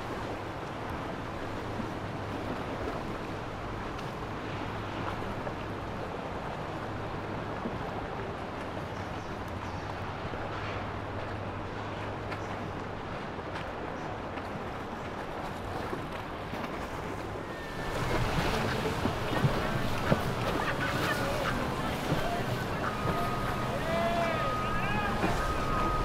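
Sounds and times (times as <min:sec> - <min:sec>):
boat engine drone: 0:00.0 - 0:26.0
rushing water: 0:00.0 - 0:26.0
wind: 0:00.0 - 0:26.0.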